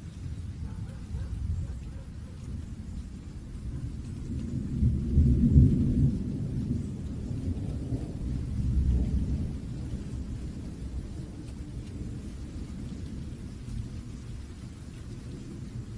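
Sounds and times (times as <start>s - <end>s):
rain hiss: 0.0s - 15.9s
thunder rumbling: 0.0s - 15.9s.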